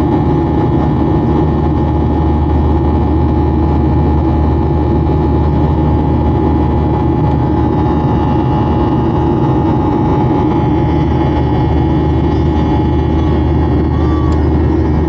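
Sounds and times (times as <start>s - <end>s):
jet engine and airflow roar: 0.0s - 15.0s
thin constant whine: 1.6s - 15.0s.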